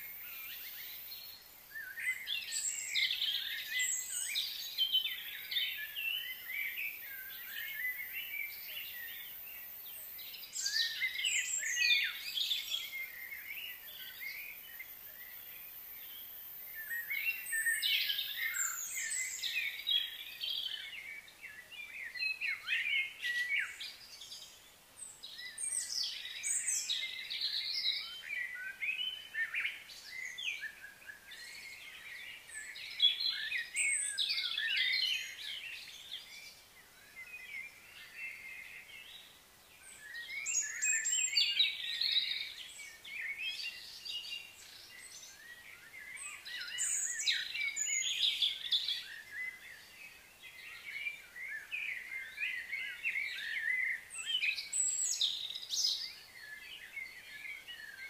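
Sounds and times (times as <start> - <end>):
small birds chirping and singing: 0.0 - 58.0.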